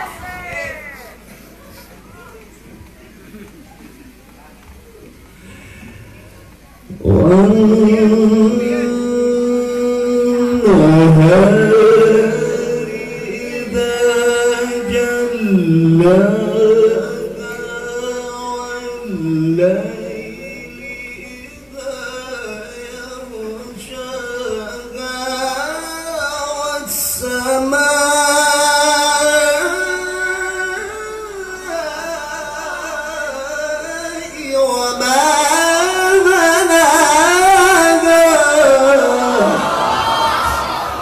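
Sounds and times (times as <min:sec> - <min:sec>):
man reciting in melismatic chant: 0:06.8 - 0:40.6.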